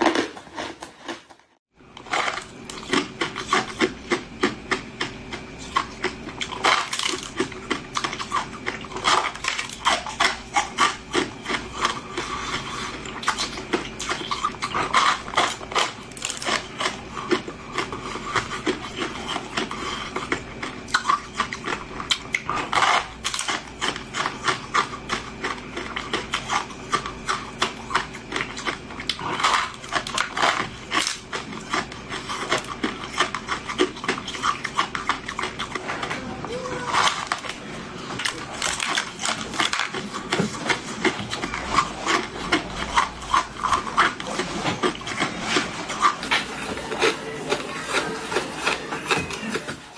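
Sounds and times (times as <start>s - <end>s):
crushed ice being chewed: 0.0s - 49.9s.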